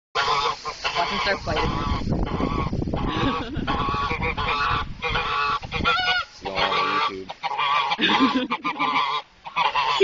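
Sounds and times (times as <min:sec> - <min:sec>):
geese honking: 0:00.2 - 0:10.0.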